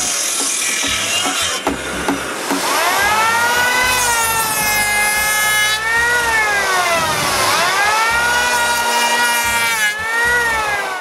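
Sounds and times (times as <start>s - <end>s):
electric planer cutting wood: 0.0s - 11.0s.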